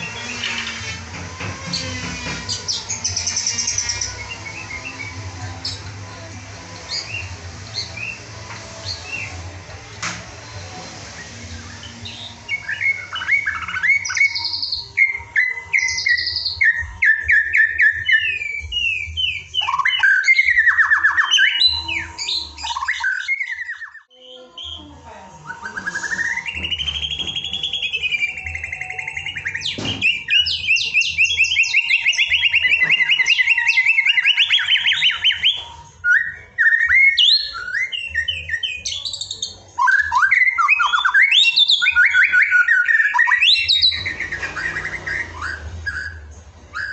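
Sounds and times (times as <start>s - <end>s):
bird singing whistles and trills: 1.7s - 5.9s, 6.8s - 9.7s, 10.5s - 46.9s.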